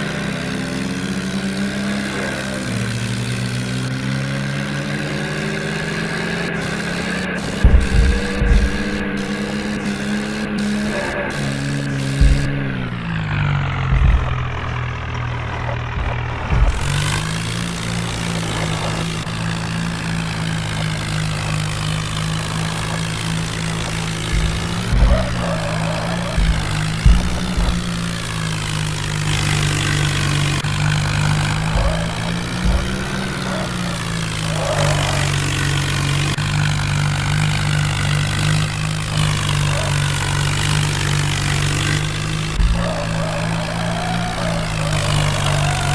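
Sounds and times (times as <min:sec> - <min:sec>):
tractor engine running: 0:00.0 - 0:45.9
low thumps: 0:07.2 - 0:38.4, 0:40.1 - 0:45.9.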